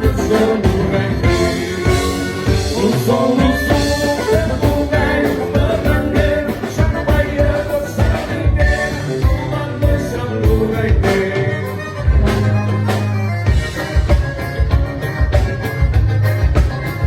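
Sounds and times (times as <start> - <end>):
drums and bass beat: 0.0 - 17.0
live dance band playing: 0.0 - 17.0.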